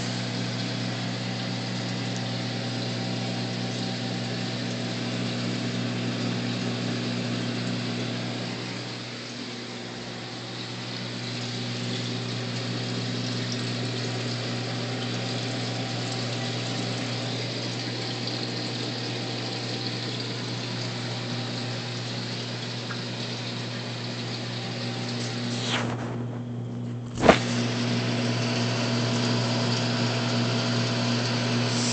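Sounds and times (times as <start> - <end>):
low pump hum: 0.0 - 31.9.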